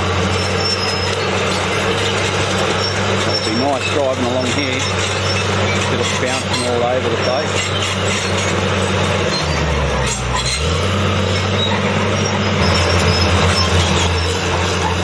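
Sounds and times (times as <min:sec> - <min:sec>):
dozer diesel engine under load: 0:00.0 - 0:15.0
steel tracks clattering and squealing: 0:00.0 - 0:15.0.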